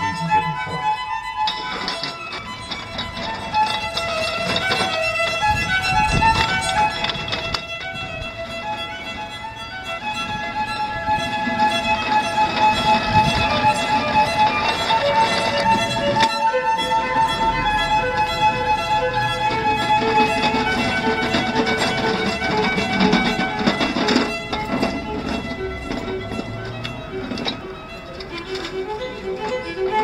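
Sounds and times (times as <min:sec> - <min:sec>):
music with long held notes: 0:00.0 - 0:30.0.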